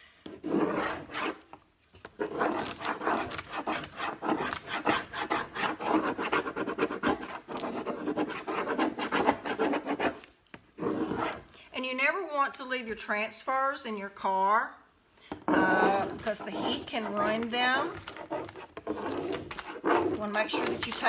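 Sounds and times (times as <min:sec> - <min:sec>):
hand tool rubbing painted surface: 0:00.2 - 0:11.5, 0:15.4 - 0:21.0.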